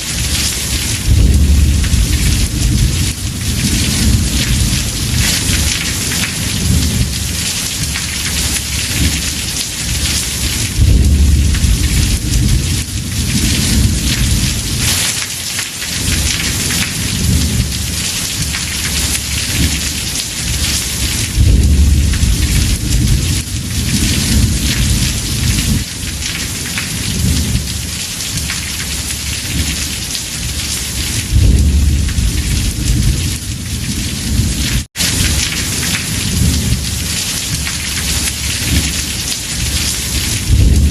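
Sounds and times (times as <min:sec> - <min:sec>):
thunder rolling: 0:00.0 - 0:15.1, 0:16.0 - 0:28.5, 0:29.3 - 0:40.9
heavy rain on a roof: 0:00.0 - 0:40.9.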